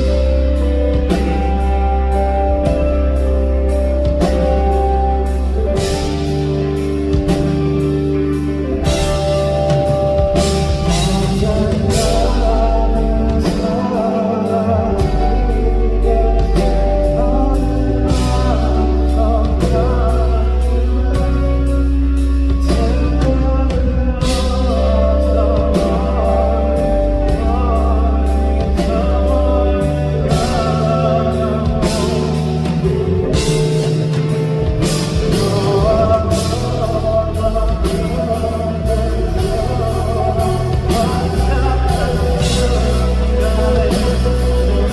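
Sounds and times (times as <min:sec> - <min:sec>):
live rock band playing: 0:00.0 - 0:44.9
person singing: 0:00.0 - 0:44.9.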